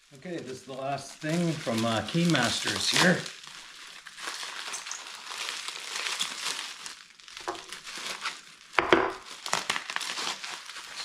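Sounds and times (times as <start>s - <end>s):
crinkling of wrapping material: 0.0s - 11.0s.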